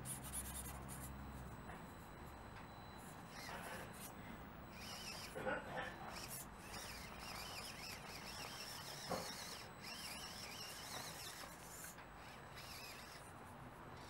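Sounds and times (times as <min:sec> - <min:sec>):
small electric motor whine: 0:01.9 - 0:14.0.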